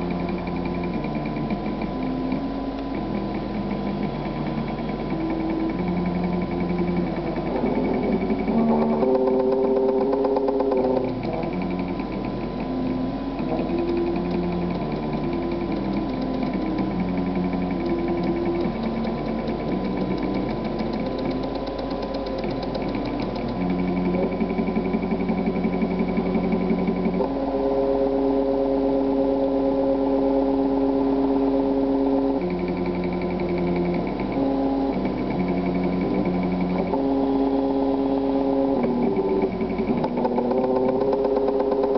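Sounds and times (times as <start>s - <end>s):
stepper motors whining: 0.0s - 41.9s.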